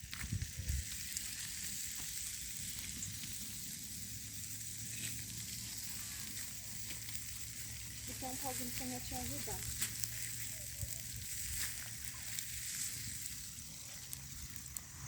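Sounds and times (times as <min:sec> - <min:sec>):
meat sizzling in foil: 0:00.0 - 0:15.0.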